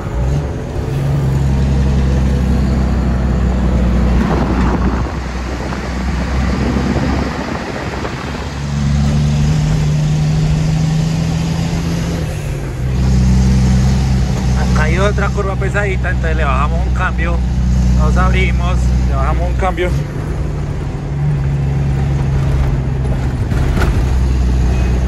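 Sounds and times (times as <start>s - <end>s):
diesel truck engine pulling uphill: 0.0s - 25.0s.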